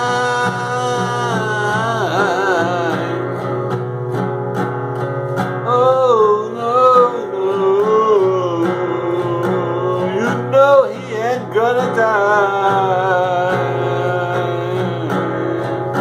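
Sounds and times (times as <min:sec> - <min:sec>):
man singing wordless note: 0:00.0 - 0:03.4, 0:05.6 - 0:16.0
acoustic guitar strumming: 0:00.0 - 0:16.0.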